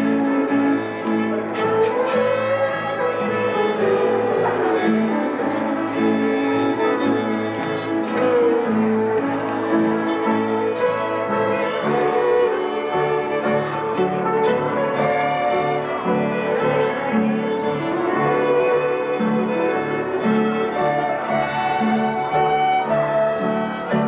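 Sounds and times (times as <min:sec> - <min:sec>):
fiddle playing a tune: 0:00.0 - 0:24.0
guitar accompaniment: 0:00.0 - 0:24.0.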